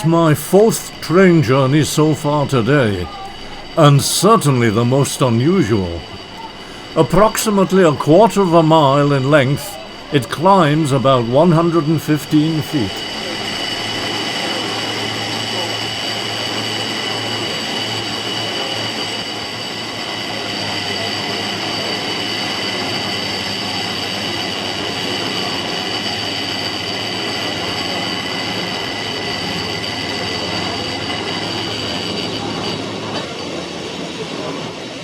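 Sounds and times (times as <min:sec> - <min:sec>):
high whine: 0:00.0 - 0:33.0
tram rolling rumble: 0:00.0 - 0:35.0.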